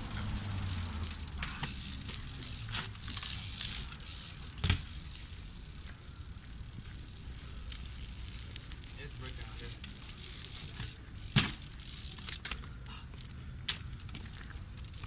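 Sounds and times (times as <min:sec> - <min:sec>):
bike clicks and rattles: 0:00.0 - 0:15.0
bike tyres on pavement: 0:00.0 - 0:15.0.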